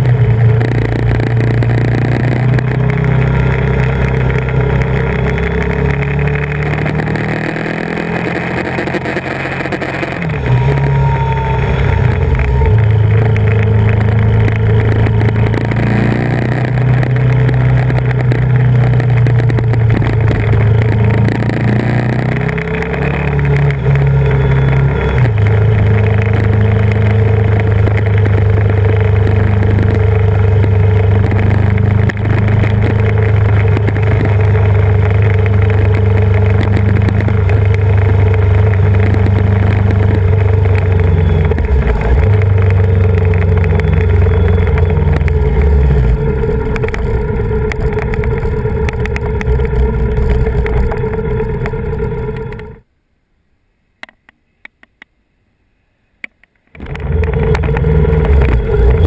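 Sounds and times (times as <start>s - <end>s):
motorcycle engine running: 0.0s - 52.8s, 56.8s - 59.0s.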